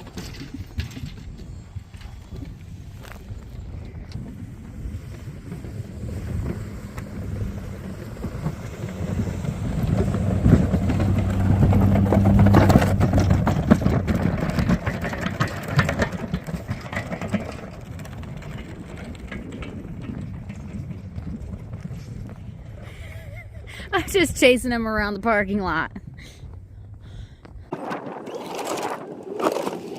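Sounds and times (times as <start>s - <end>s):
snowplow engine running: 0.0s - 25.9s.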